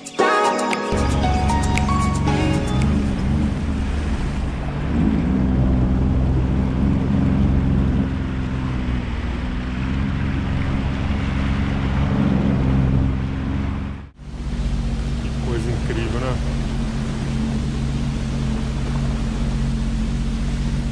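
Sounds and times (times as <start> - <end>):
jet ski engine running: 1.0 - 20.9
water rushing past hull: 2.4 - 13.7, 14.4 - 20.9.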